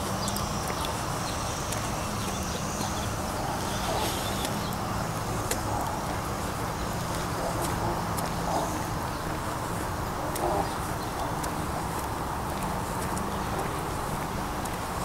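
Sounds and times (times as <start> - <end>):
footsteps on stone path: 0.0 - 15.0.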